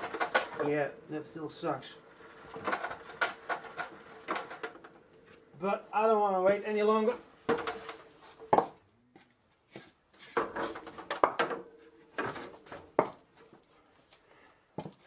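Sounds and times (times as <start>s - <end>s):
knocks and scrapes of handling: 0.0s - 5.6s, 7.1s - 14.2s.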